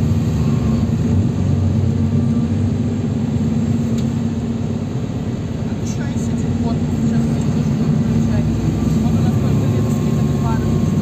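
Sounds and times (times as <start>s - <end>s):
bus engine droning: 0.0s - 11.0s
road noise: 0.0s - 11.0s.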